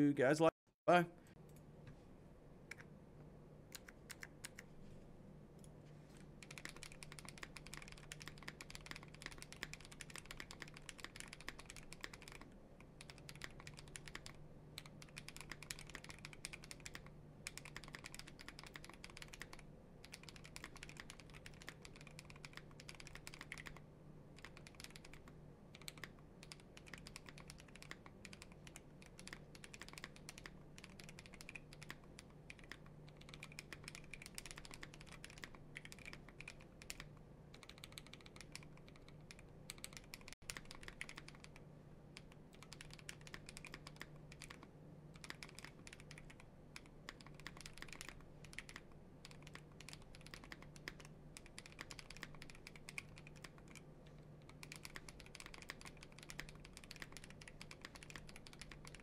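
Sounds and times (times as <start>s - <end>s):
mechanical keyboard typing: 3.7s - 4.7s, 6.4s - 23.8s, 24.4s - 41.6s, 42.2s - 53.8s, 54.4s - 59.0s.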